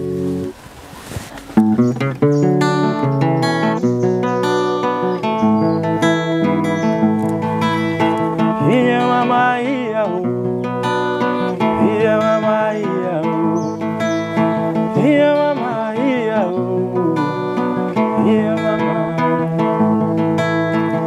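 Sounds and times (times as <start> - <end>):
strummed acoustic guitar music: 0.0 - 21.0
sliding melody line: 1.6 - 21.0.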